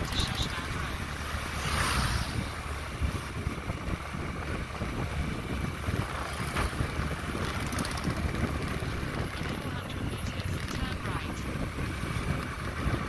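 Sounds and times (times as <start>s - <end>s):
low road rumble: 0.0s - 13.0s
wind rushing over microphone: 0.0s - 13.0s.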